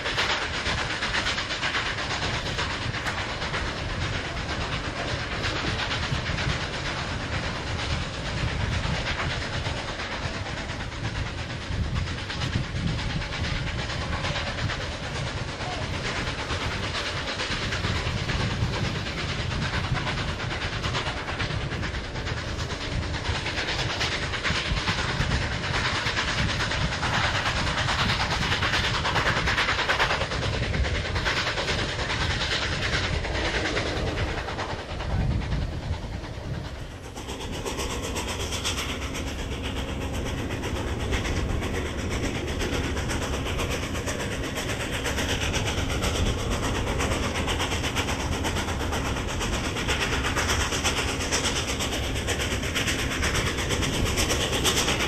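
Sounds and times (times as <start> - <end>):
steam locomotive exhaust: 0.0 - 55.0
train running on rails: 0.0 - 55.0.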